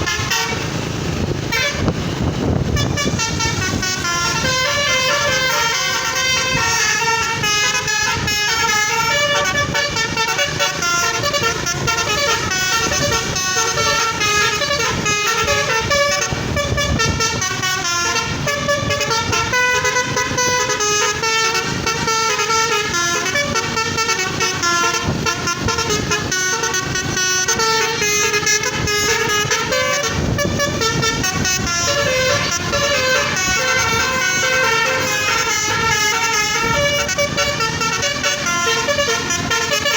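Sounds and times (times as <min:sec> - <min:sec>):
bus multi-tone horn playing a tune: 0:00.0 - 0:39.9.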